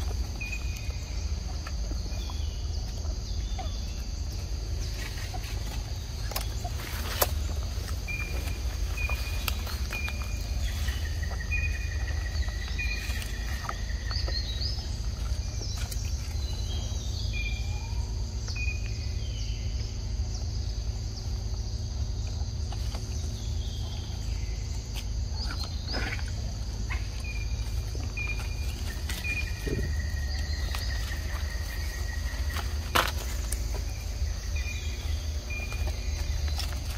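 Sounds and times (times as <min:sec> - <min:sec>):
bird chirping: 0:00.0 - 0:36.9
insects buzzing: 0:00.0 - 0:36.9
low rumble: 0:00.0 - 0:36.9.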